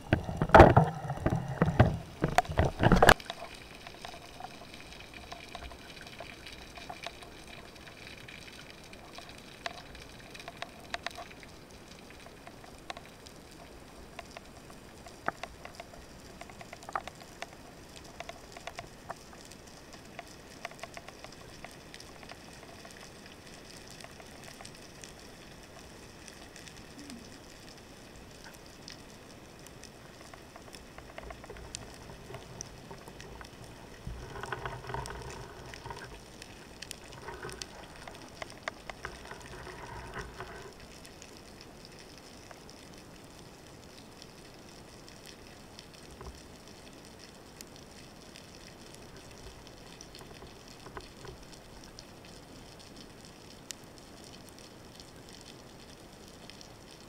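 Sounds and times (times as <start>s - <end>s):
underwater fine crackling clicks: 0.0s - 57.0s.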